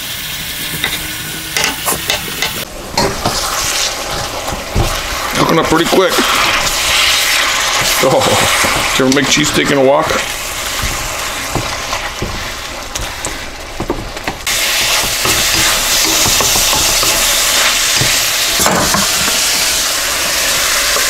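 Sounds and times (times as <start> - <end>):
meat sizzling in a wok: 0.0 - 21.0
wooden spatula scraping a pan: 1.6 - 19.8.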